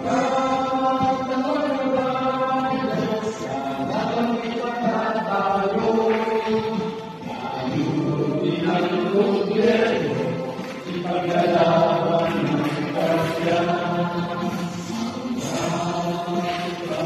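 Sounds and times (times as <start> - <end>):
men singing in unison: 0.0 - 17.0.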